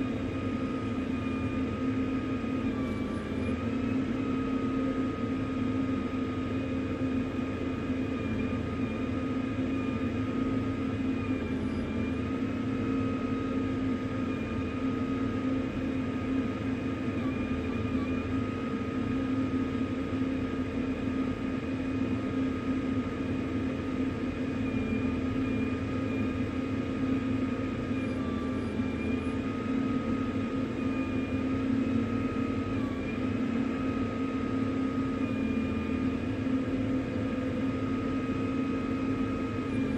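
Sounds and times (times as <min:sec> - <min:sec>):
mechanical drone with humming tones: 0:00.0 - 0:39.9.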